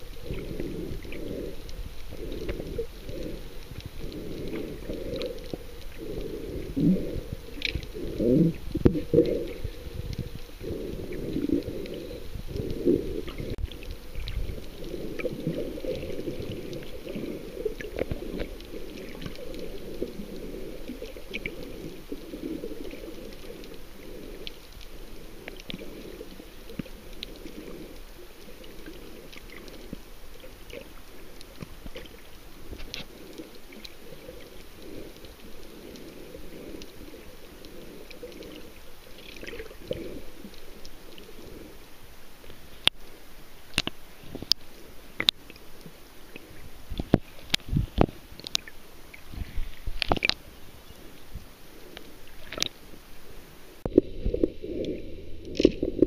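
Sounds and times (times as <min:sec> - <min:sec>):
faint clicks: 0:00.0 - 0:53.0
muffled underwater churning rumble: 0:00.0 - 0:56.0.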